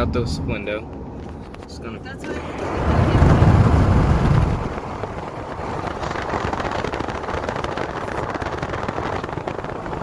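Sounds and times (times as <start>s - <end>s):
car road noise: 0.0s - 10.0s
rushing wind: 0.0s - 10.0s
wind crackling on microphone: 1.1s - 10.0s.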